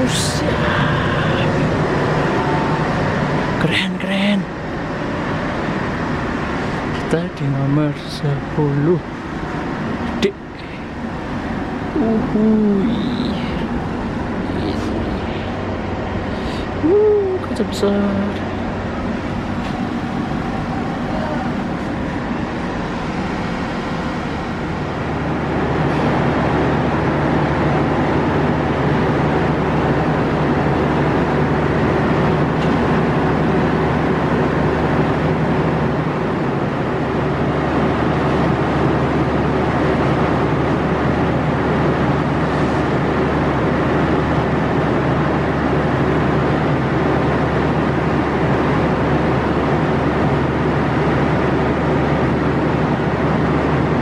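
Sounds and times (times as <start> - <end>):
train hum and rumble: 0.0 - 54.0.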